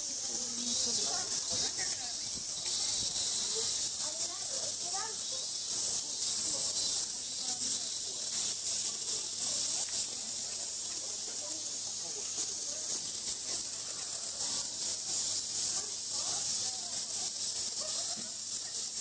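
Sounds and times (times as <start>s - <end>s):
cicada chorus hissing: 0.0s - 19.0s
faint voices murmuring: 0.0s - 19.0s.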